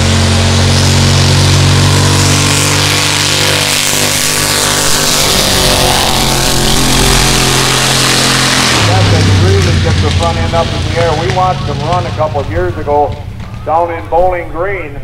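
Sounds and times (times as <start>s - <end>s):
machine rushing past: 0.0s - 13.8s
loud backhoe engine: 0.0s - 14.2s.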